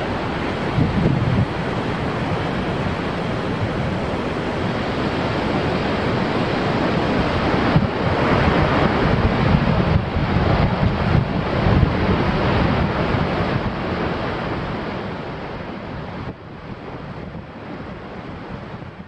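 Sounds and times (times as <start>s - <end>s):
waterfall roaring: 0.0s - 19.0s
wind buffeting the microphone: 0.0s - 19.0s.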